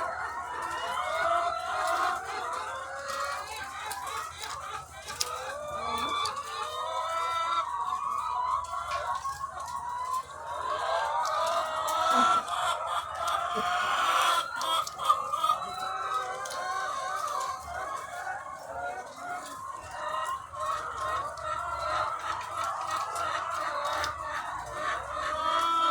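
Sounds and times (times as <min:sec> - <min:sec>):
hens clucking: 0:00.0 - 0:25.9.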